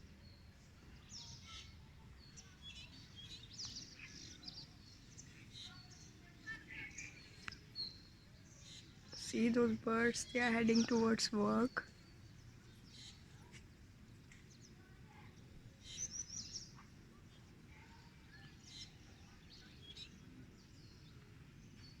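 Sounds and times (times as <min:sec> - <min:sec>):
faint bird chirps: 0:00.0 - 0:22.0
low steady background noise: 0:00.0 - 0:22.0.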